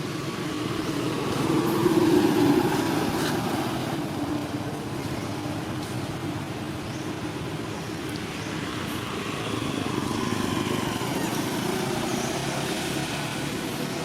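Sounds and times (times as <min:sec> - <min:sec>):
engine-like drone: 0:00.0 - 0:14.0.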